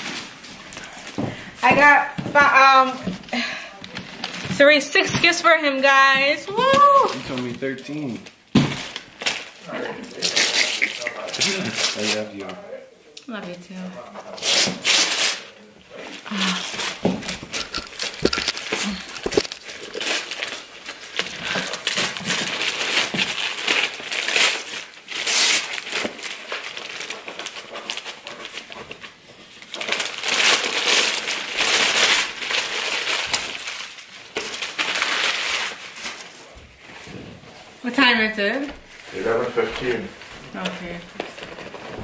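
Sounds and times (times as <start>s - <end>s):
wrapping paper tearing and crinkling: 3.9s - 5.3s, 6.6s - 12.5s, 14.2s - 37.8s, 38.9s - 42.0s.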